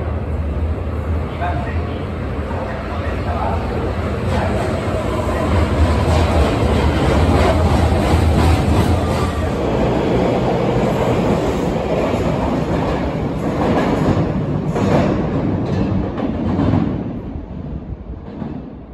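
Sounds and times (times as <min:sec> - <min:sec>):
subway train wheels rumbling: 0:00.0 - 0:18.9.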